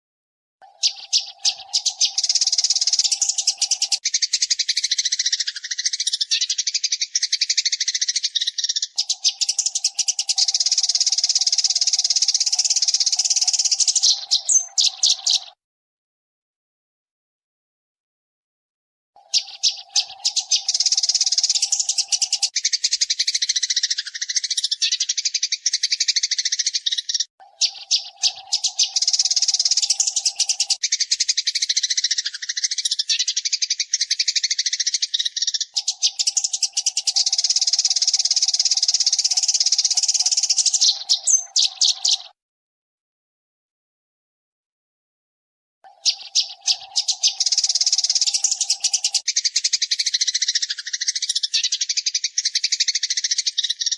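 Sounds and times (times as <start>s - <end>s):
sparrow chirping fast: 0.6s - 15.6s, 19.2s - 42.4s, 45.8s - 53.9s.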